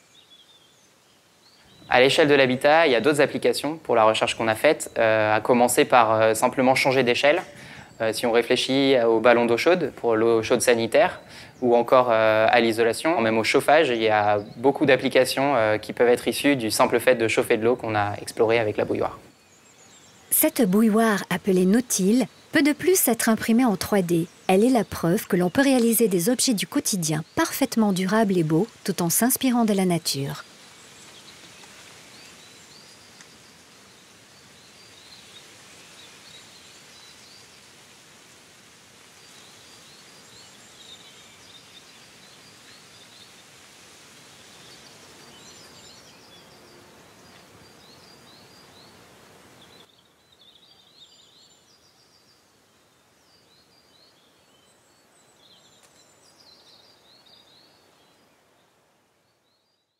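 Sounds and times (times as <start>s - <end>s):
steady hiss: 0.0s - 59.8s
small birds chirping: 0.0s - 59.9s.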